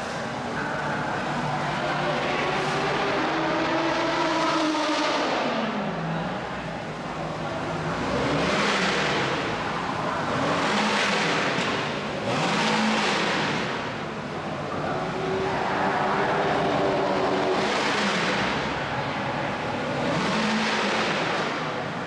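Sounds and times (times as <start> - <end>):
racing cars passing: 0.0 - 22.0.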